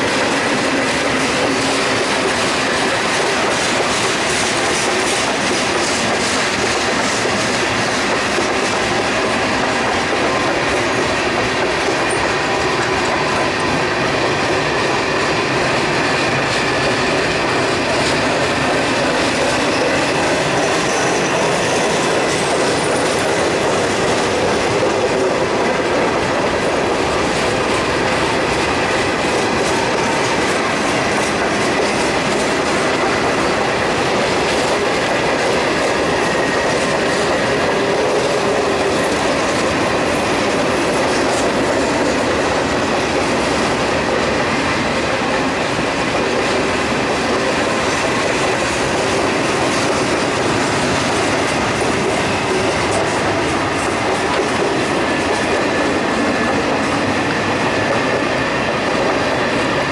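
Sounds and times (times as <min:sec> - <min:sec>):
freight train wheels clacking on rails: 0:00.0 - 0:59.9.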